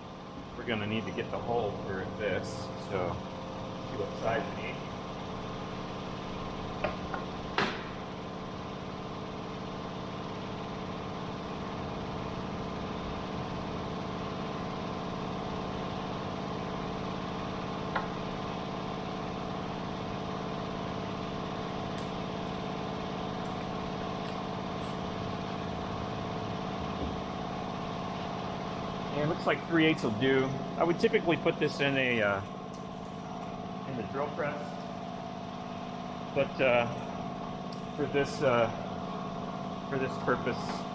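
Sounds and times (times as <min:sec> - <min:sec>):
machinery hum: 0:00.0 - 0:40.9.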